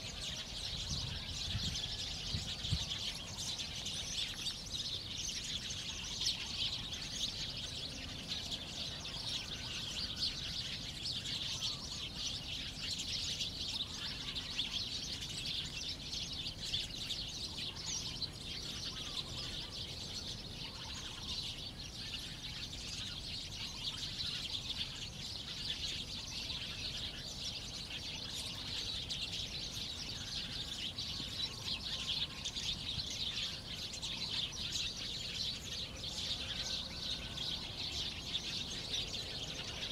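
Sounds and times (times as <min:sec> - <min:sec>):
birds and insects chirping: 0:00.0 - 0:39.9.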